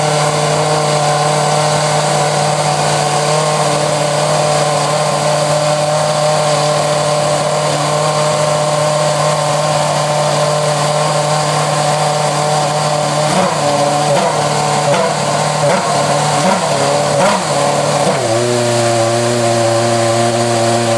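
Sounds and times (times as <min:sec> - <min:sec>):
racing car engine idling: 0:00.0 - 0:19.2
engine throttle blips: 0:00.0 - 0:20.9.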